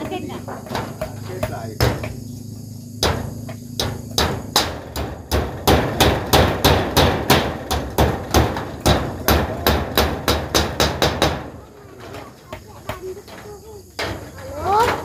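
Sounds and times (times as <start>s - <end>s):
hammer driving nails into metal roofing: 0.0s - 2.3s, 3.0s - 15.0s.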